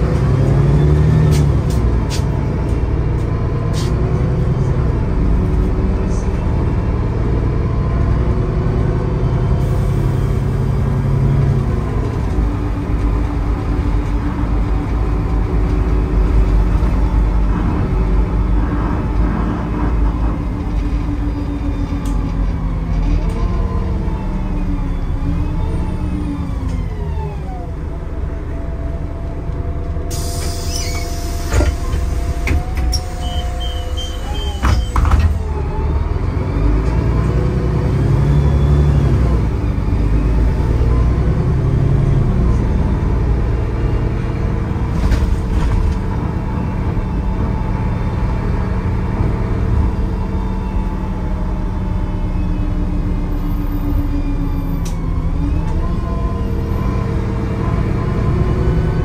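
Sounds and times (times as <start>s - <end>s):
bus engine pulling away: 0.0s - 59.0s.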